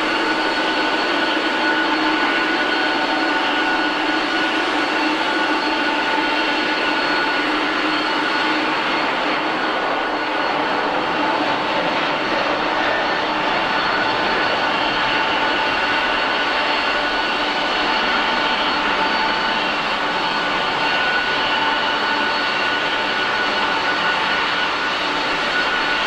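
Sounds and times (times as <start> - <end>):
jet engines running: 0.0 - 26.0
steady whining tones: 0.0 - 26.0.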